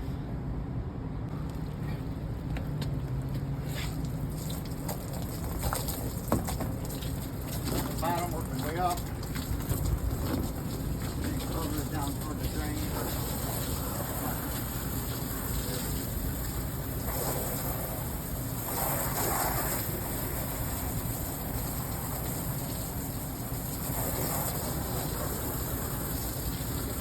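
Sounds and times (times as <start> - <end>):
steady low rumble: 0.0 - 27.0
hose water spraying: 3.0 - 27.0.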